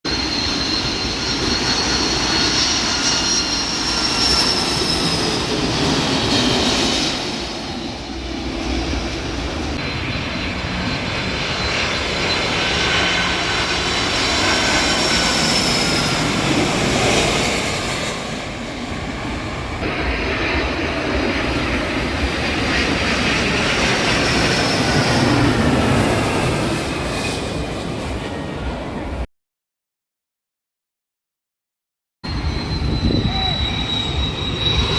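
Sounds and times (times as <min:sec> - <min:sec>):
jet engines passing overhead: 0:00.1 - 0:29.3, 0:32.2 - 0:34.9.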